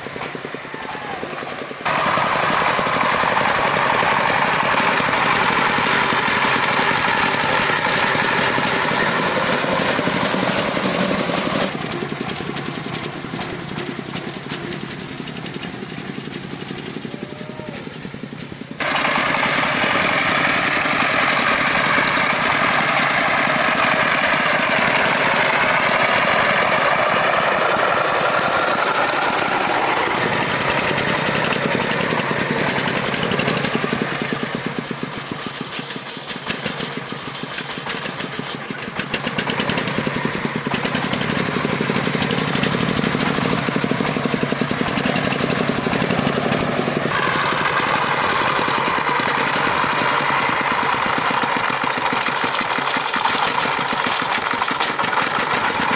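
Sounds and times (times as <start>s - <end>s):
truck engine pulsing: 0.0s - 55.9s.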